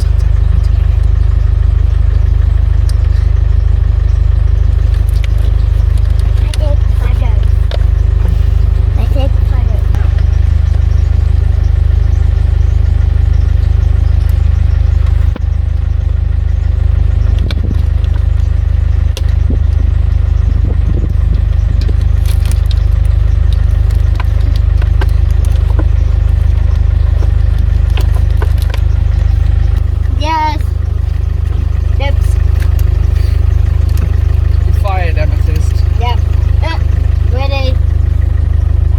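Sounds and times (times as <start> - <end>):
car engine and road drone: 0.0 - 38.9.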